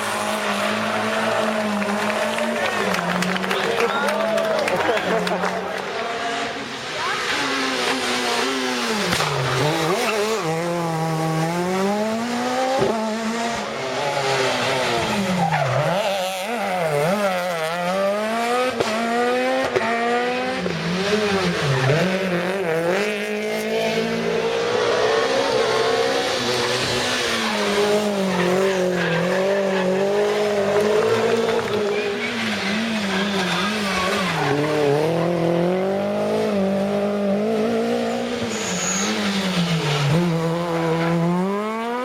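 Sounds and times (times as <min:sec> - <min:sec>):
rally car engine revving hard: 0:00.0 - 0:03.7, 0:05.2 - 0:42.0.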